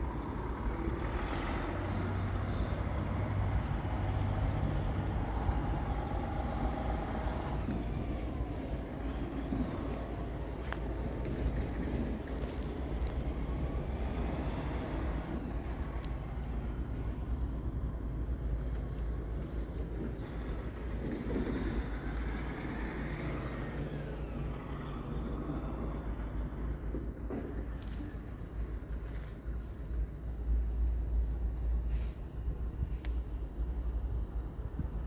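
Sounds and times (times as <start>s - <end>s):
vehicle rumble: 0.0s - 35.0s.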